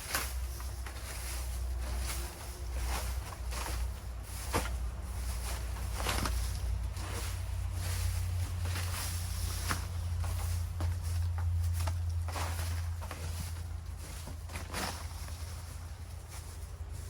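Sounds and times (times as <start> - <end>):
rustling of leaf litter: 0.0 - 17.0
steady low hum: 0.0 - 17.0.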